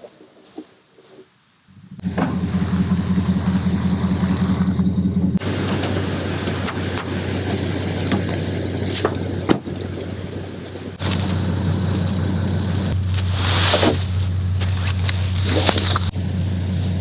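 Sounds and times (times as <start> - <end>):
vehicle engine running: 1.7 - 17.0.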